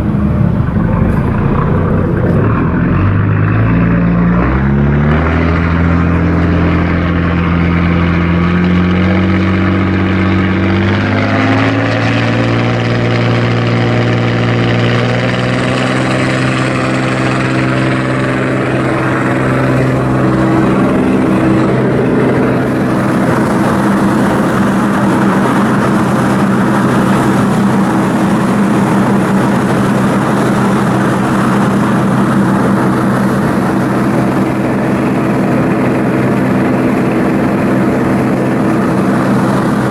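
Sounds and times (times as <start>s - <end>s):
ship diesel engine running: 0.0s - 39.9s.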